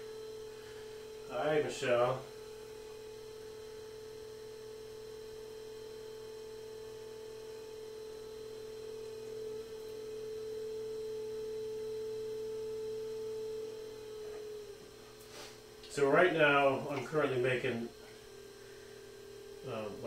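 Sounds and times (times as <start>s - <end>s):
potter's wheel electric hum: 0.0s - 20.0s.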